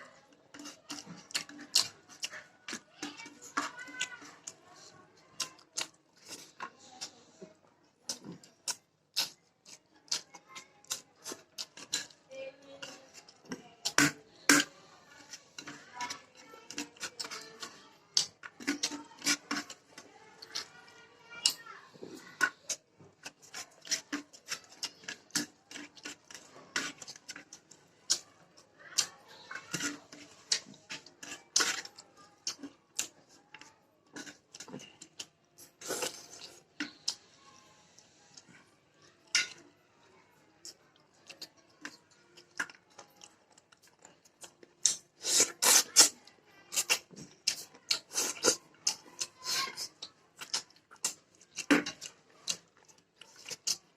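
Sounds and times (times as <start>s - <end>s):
person chewing food: 0.1s - 39.7s, 40.5s - 53.9s.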